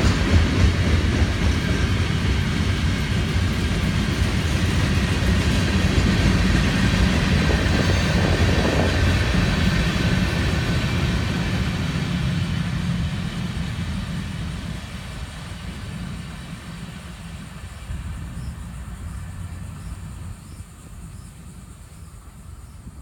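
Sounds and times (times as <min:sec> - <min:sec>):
freight train cars rolling past: 0:00.0 - 0:23.0.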